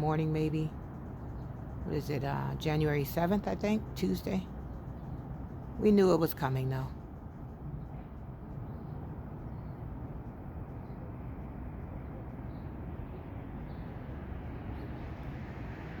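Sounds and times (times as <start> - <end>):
low rumble of city ambience: 0.0 - 16.0.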